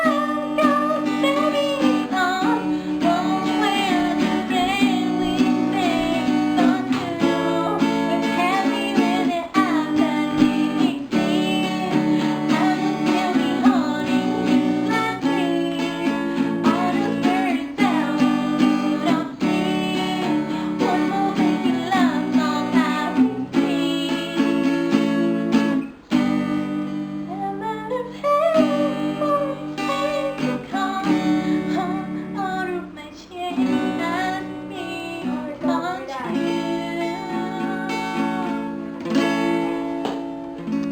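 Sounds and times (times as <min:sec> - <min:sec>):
person singing: 0:00.0 - 0:25.6, 0:27.3 - 0:40.1
acoustic guitar strumming: 0:00.0 - 0:40.9.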